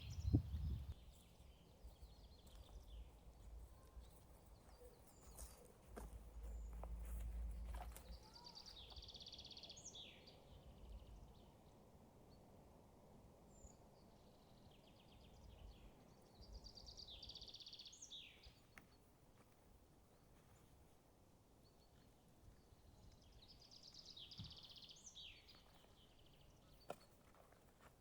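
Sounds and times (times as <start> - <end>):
faint forest background: 0.0 - 28.0.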